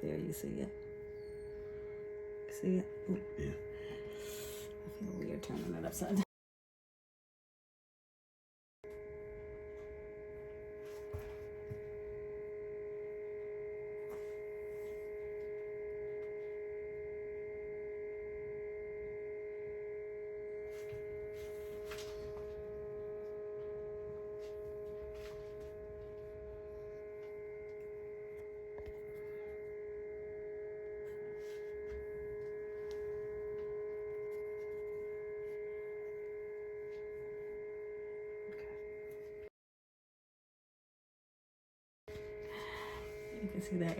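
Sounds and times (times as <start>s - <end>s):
electrical hum: 0.0s - 6.3s, 8.9s - 39.5s, 42.1s - 43.9s.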